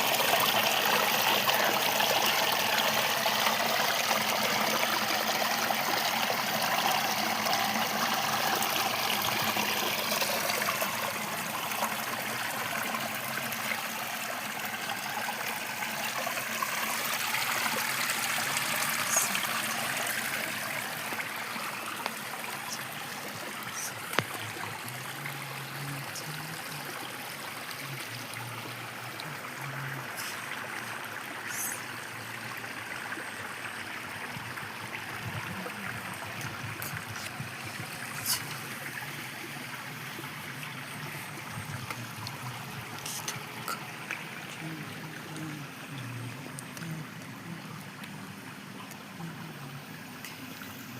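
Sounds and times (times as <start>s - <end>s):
river water rushing over rocks: 0.0s - 50.9s.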